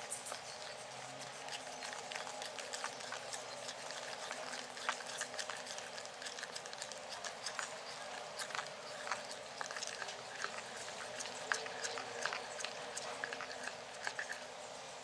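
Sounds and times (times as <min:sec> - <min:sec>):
utensils tapping against bowl: 0:00.0 - 0:14.4.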